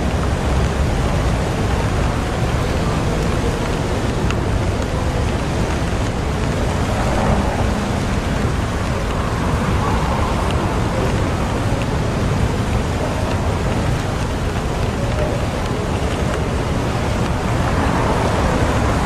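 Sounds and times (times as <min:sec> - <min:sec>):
low rumble of city traffic: 0:00.0 - 0:19.0
steady rain: 0:00.0 - 0:19.0.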